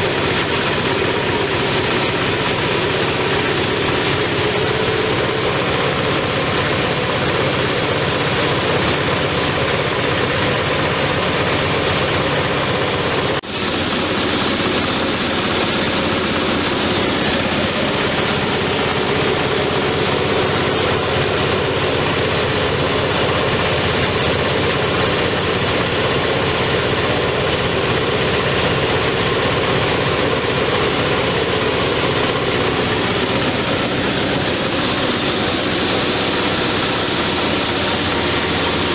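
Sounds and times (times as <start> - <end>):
machine running: 0.0 - 38.9.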